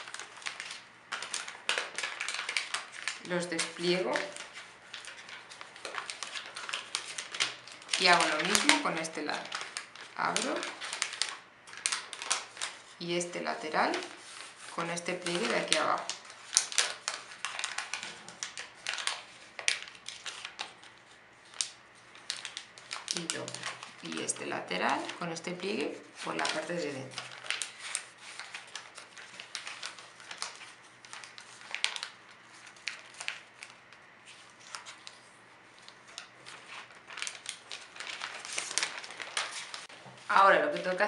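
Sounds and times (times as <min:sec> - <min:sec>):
metallic paper crinkling: 0:00.0 - 0:41.0.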